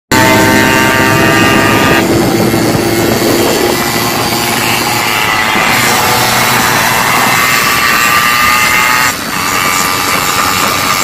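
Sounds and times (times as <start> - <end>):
two-stroke motorcycle engine running: 0.1 - 11.0.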